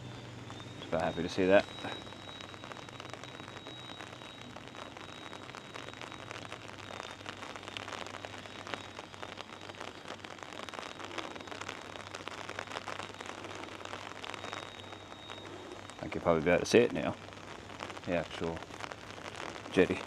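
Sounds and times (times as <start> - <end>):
rain falling: 0.0 - 20.0
raindrops pattering: 0.0 - 20.0.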